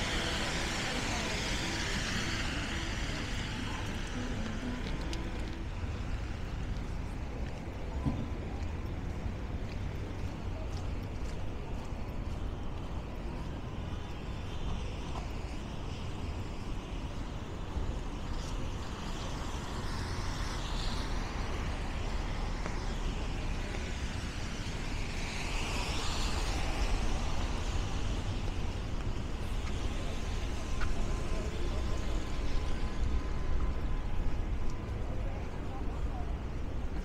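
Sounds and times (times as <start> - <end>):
traffic engine rumble: 0.0 - 37.0.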